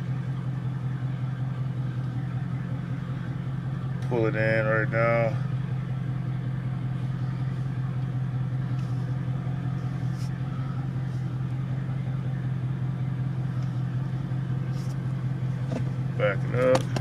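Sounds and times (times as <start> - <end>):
car engine running low drone: 0.0 - 17.0.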